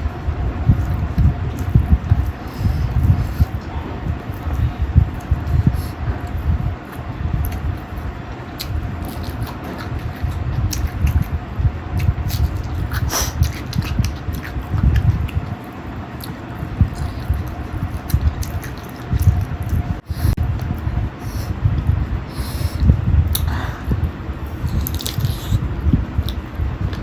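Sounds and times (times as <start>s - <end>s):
chewing and mouth noises: 0.7s - 27.0s.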